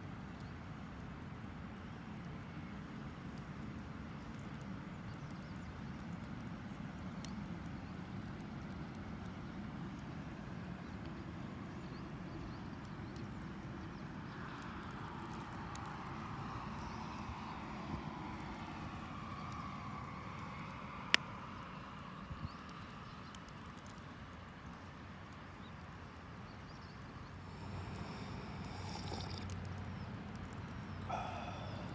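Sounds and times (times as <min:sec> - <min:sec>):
campfire crackling: 0:00.1 - 0:31.9.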